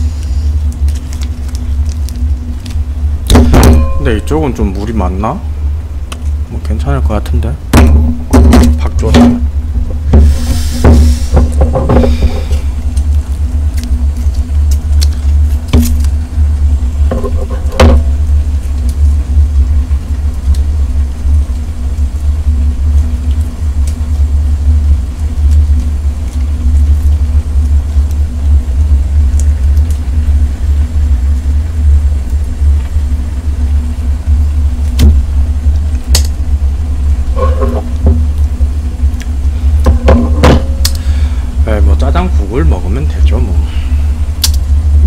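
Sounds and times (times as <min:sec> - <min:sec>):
gas burners rumbling: 0:00.0 - 0:45.0.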